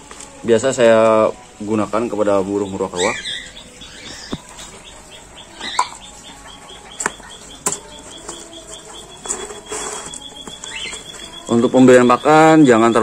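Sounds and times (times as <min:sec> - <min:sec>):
high regular chirping: 0:01.7 - 0:13.0.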